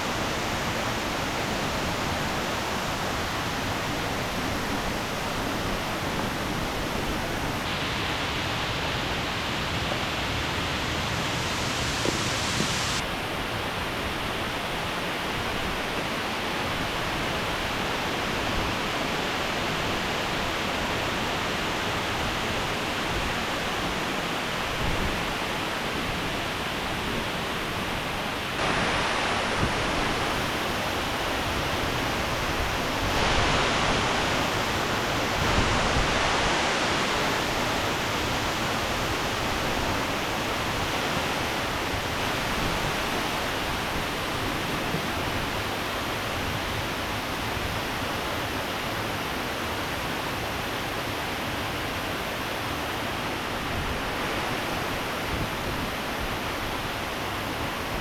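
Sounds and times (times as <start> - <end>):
waterfall and rapids roaring: 0.0 - 58.0.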